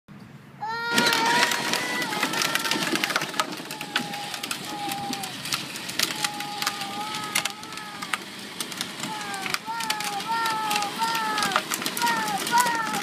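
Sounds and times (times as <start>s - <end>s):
plastic wheels crackling on asphalt: 0.6s - 13.0s
toy electric motor whining: 0.7s - 13.0s.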